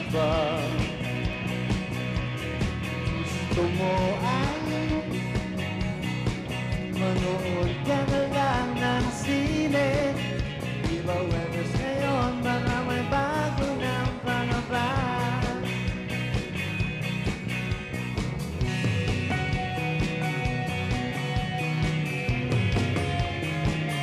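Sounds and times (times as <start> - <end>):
bending guitar melody: 0.0 - 24.0
live rock band playing: 0.0 - 24.0.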